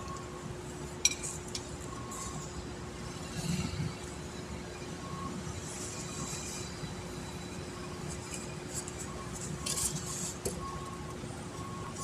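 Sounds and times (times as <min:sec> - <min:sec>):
workshop background hum: 0:00.0 - 0:12.0.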